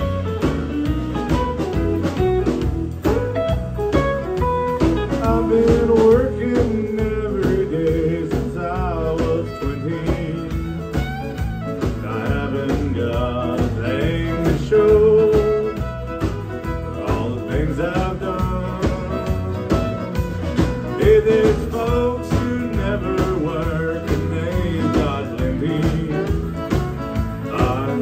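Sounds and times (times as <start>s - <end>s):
fiddle lead: 0.0s - 28.0s
live country band playing: 0.0s - 28.0s.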